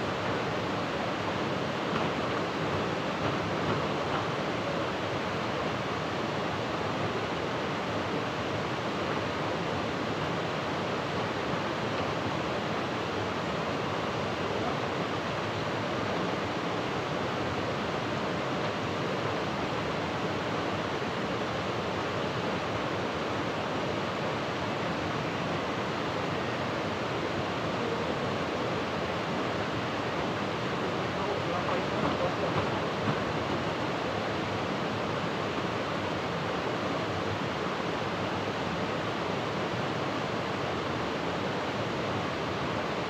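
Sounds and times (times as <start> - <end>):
water rushing: 0.0 - 43.0.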